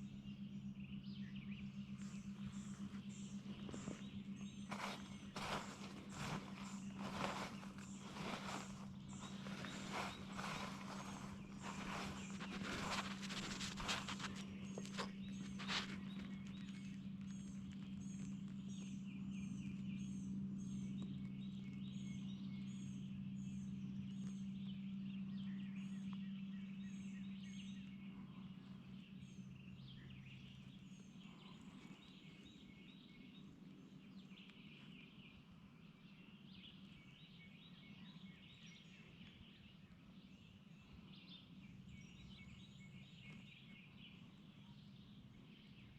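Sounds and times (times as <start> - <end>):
songbirds singing and chirping: 0.0 - 45.9
steady low hum: 0.0 - 45.9.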